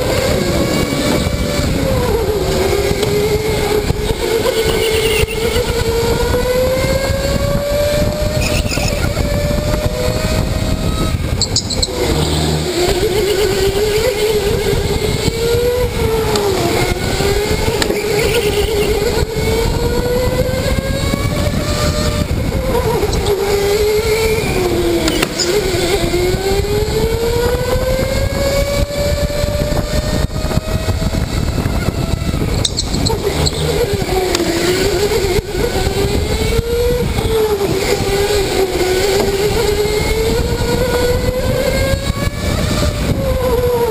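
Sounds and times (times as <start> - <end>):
electric go-kart motor whining: 0.0 - 43.9
loud rough rumble: 0.0 - 43.9.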